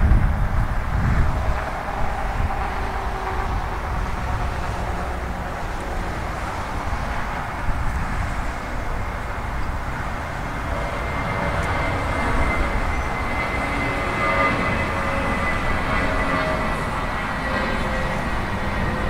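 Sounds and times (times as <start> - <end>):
high jet whine: 0.0 - 19.0
jet engine rumble: 0.0 - 19.0.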